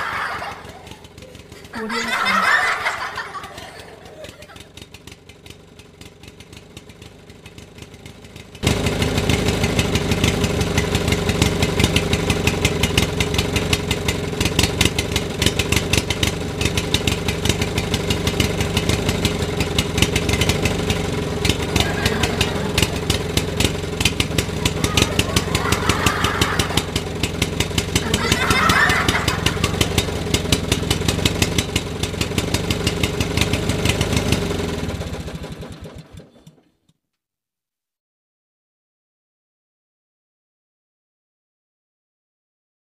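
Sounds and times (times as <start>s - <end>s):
engine idling: 0.0s - 36.7s.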